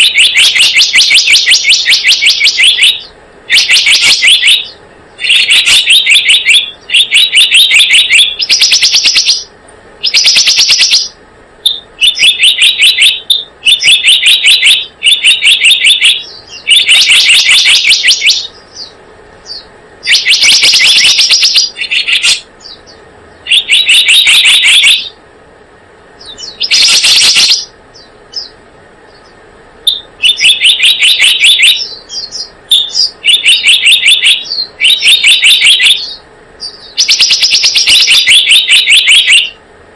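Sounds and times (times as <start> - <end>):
rattling bird chirp trills: 0.0 - 25.2, 26.2 - 39.6.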